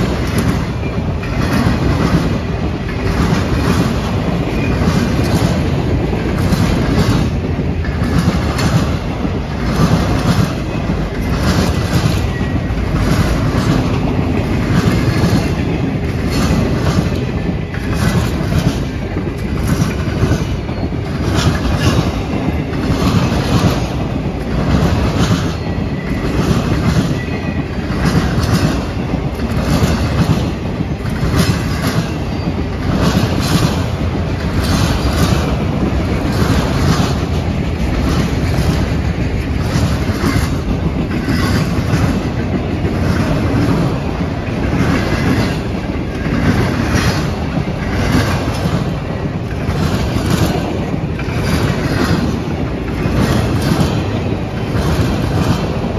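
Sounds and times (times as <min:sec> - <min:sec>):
clickety-clack over rail joints: 0:00.0 - 0:55.9
train wheels rumbling on rail: 0:00.0 - 0:55.9.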